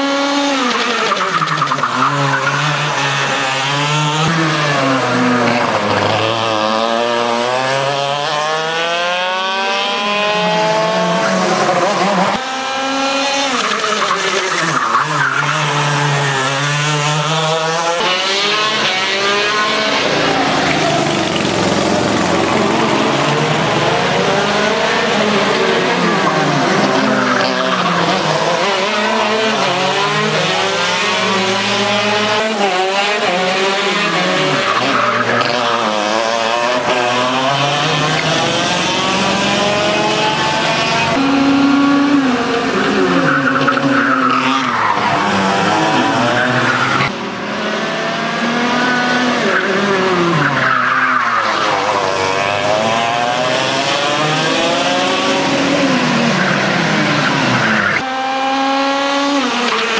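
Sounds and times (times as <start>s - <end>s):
go-kart engines revving: 0.0s - 59.9s.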